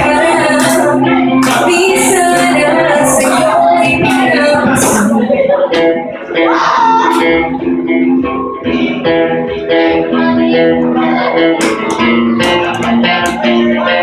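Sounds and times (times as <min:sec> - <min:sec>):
guitar playing melody: 0:00.0 - 0:14.0.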